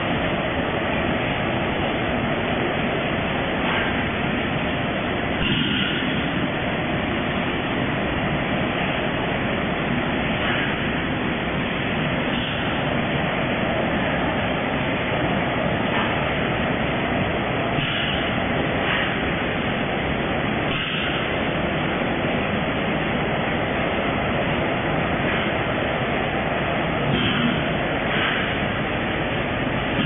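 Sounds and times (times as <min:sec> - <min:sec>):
conveyor belts running: 0:00.0 - 0:30.0
packing machines running: 0:00.0 - 0:30.0.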